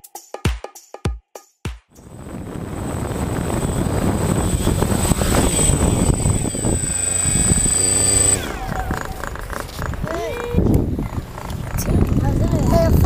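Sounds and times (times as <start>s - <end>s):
quadcopter propellers whirring: 2.0s - 13.0s.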